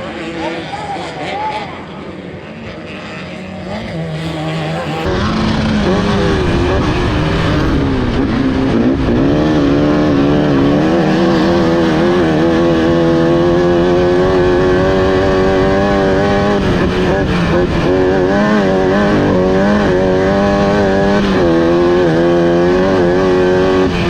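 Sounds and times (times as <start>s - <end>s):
race car engine running hard: 0.0s - 24.0s.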